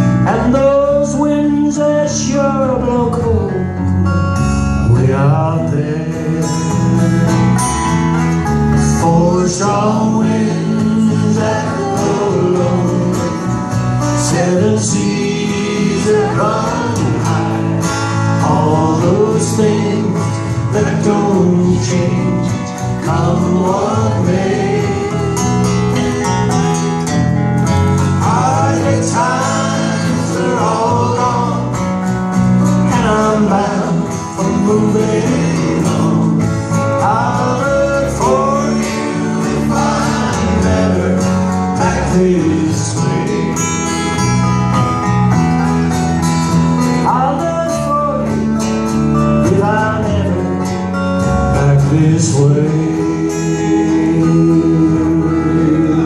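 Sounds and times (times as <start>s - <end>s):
acoustic guitar: 0.0s - 56.0s
sliding lead melody: 0.0s - 56.0s.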